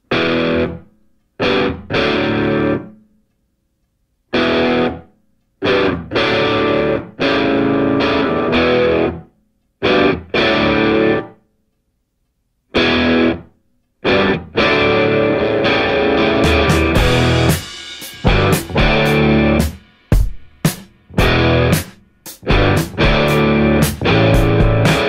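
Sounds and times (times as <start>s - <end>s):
distorted electric guitar chords: 0.0s - 3.0s, 4.3s - 9.2s, 9.8s - 11.4s, 12.7s - 20.2s, 21.1s - 25.0s.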